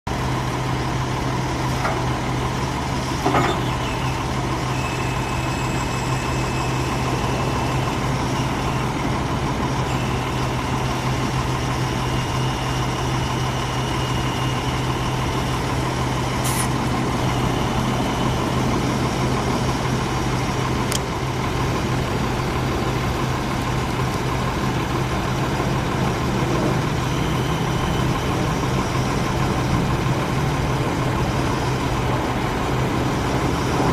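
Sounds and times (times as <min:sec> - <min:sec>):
diesel truck engine idling: 0:00.1 - 0:33.9.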